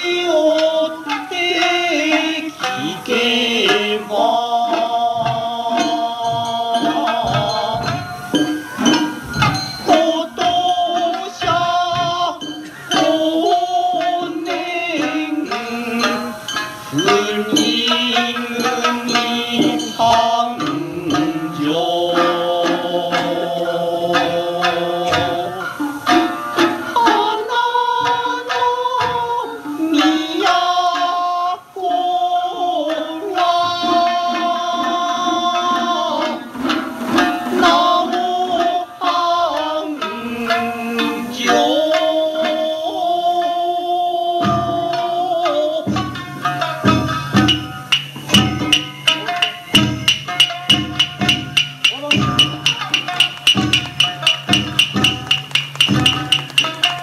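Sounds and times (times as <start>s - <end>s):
person singing over loudspeakers: 0.0s - 8.5s, 9.3s - 46.2s, 51.0s - 57.0s
percussion strikes: 0.0s - 57.0s.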